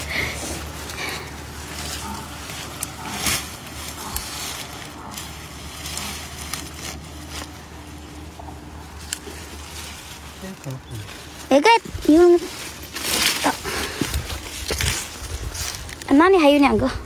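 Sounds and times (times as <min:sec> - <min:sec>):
rustling and crackling leaves: 0:00.0 - 0:17.0.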